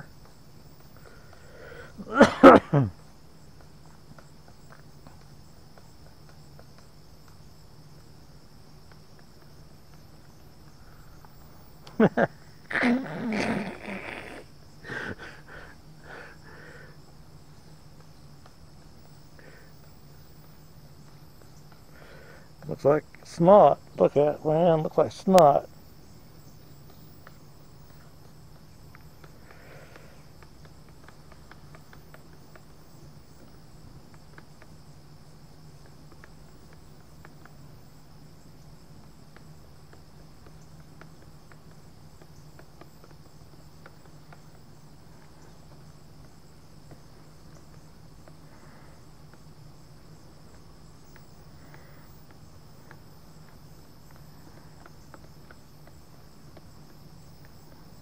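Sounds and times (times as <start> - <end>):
insects chirring: 0.0 - 58.0
low steady hum: 0.0 - 58.0.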